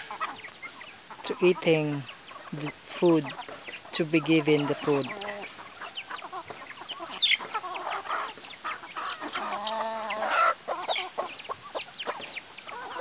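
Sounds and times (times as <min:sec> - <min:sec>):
hens and rooster clucking: 0:00.0 - 0:13.0.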